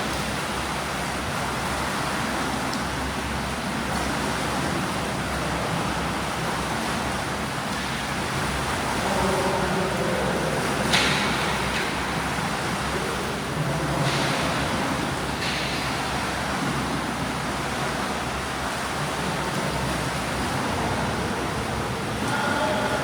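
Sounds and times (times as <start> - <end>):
swimmers churning water: 0.0 - 23.0
water splashes: 0.0 - 23.0.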